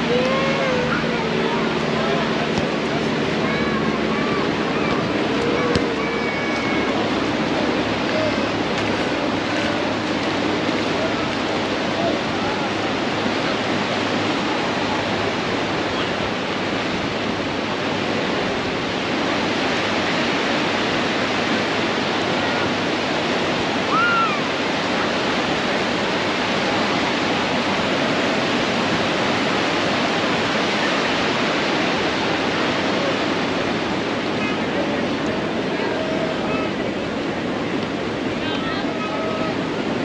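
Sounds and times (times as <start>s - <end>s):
surf breaking on a beach: 0.0s - 40.0s.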